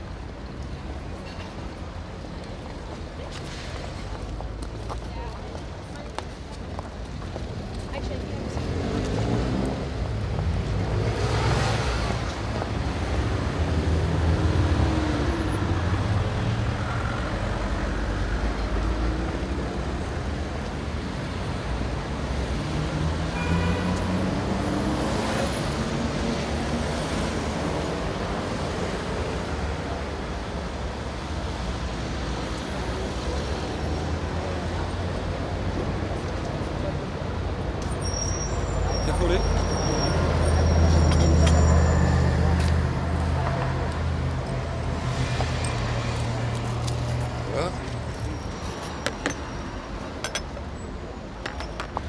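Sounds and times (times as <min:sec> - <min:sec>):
traffic engine rumble: 0:00.0 - 0:52.0
vehicles passing close by: 0:00.0 - 0:52.0.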